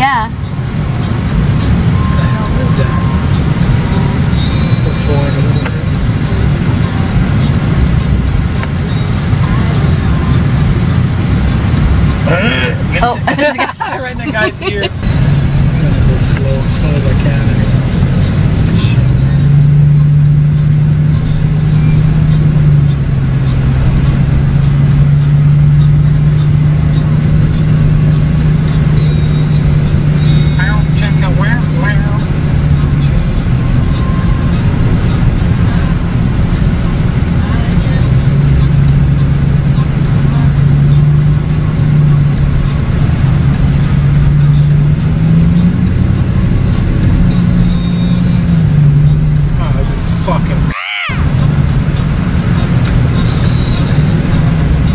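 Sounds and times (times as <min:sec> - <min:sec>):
car engine droning: 0:00.0 - 0:54.9
road rumble: 0:00.0 - 0:54.9.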